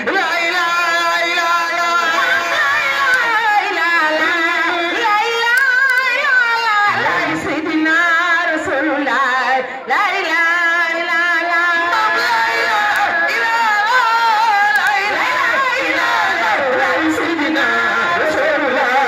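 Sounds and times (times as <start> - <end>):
man singing into a microphone: 0.0 - 5.2, 6.2 - 19.0.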